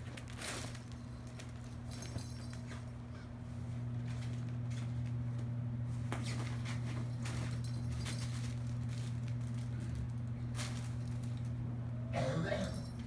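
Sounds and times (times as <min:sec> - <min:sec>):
steady low hum: 0:01.9 - 0:13.0.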